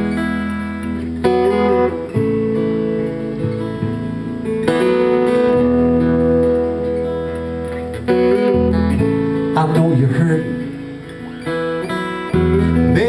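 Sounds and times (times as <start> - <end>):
acoustic guitar strumming: 0.0 - 13.0
bass guitar notes: 0.0 - 13.0.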